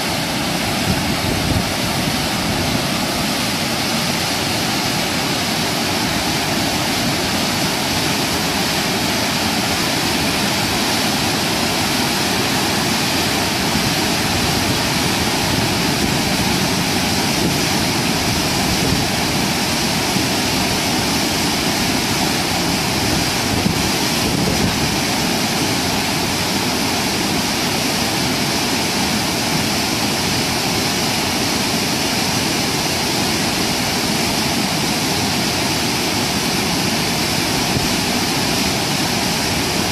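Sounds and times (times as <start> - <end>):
river water rushing over weir: 0.0 - 39.9.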